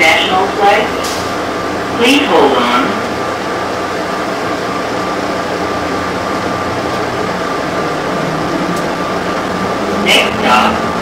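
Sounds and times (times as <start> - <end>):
train car rolling rumble and hiss: 0.0 - 11.0.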